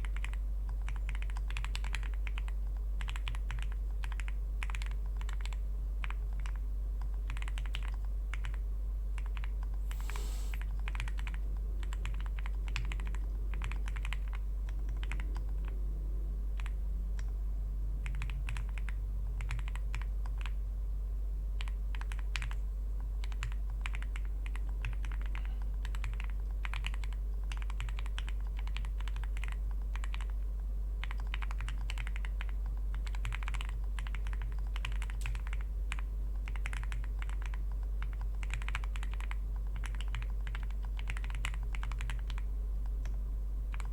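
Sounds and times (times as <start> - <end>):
typing on mechanical keyboard: 0.0 - 8.6, 9.2 - 9.7, 10.5 - 15.8, 16.5 - 17.3, 18.0 - 20.6, 21.6 - 22.6, 23.2 - 30.4, 31.0 - 43.9
steady low hum: 0.0 - 43.9.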